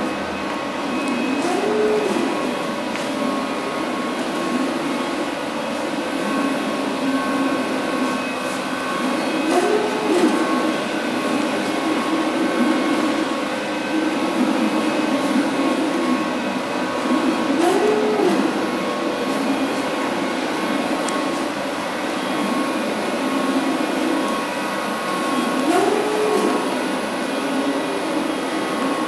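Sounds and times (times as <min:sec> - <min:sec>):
cooling fans whirring: 0:00.0 - 0:29.0.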